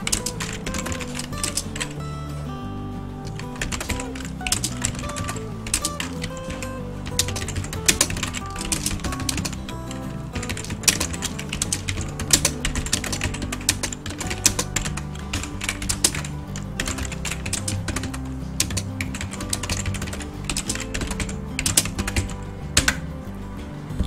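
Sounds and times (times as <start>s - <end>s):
background music with low notes: 0.0s - 24.0s.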